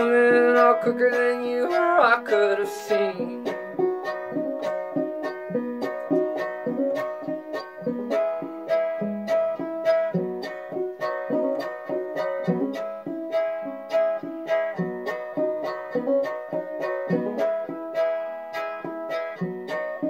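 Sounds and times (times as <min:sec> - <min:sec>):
banjo plucked notes: 0:00.0 - 0:20.0.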